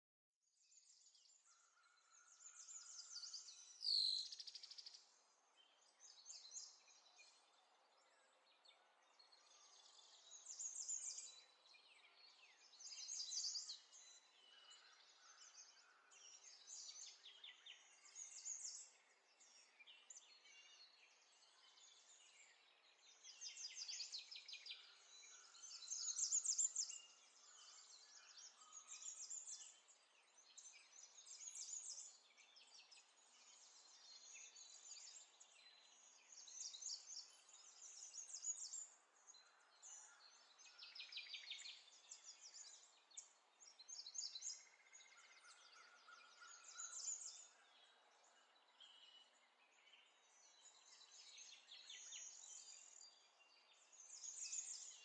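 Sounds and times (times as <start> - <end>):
birds chirping and trilling: 0.8 - 55.0.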